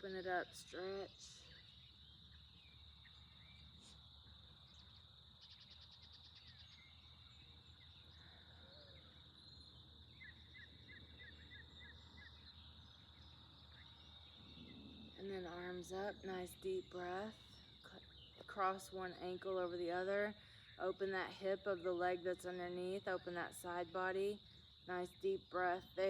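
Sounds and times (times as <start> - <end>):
bird chirping: 0.0 - 26.0
high insect drone: 0.0 - 26.0.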